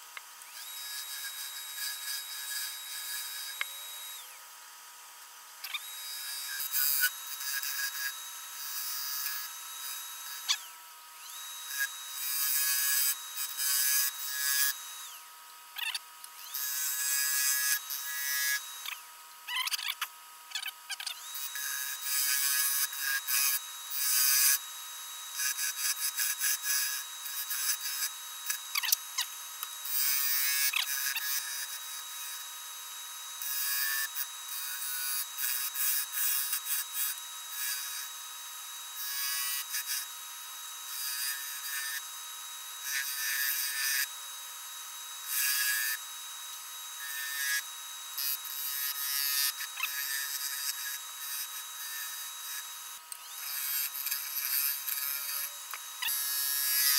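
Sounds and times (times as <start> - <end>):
tool cutting wood on a lathe: 0.0 - 4.5, 5.5 - 56.9
lathe whine: 0.0 - 56.9.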